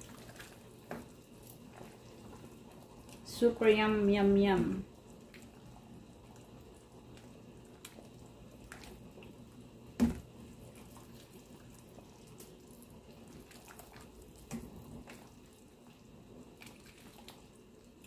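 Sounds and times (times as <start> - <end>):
ladle stirring soup: 0.0 - 3.3, 4.9 - 9.6, 10.2 - 18.0
low steady hum: 0.0 - 18.0.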